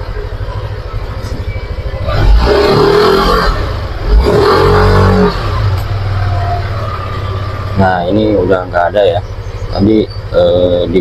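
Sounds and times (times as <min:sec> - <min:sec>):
scooter engine idling and revving: 0:00.0 - 0:11.0.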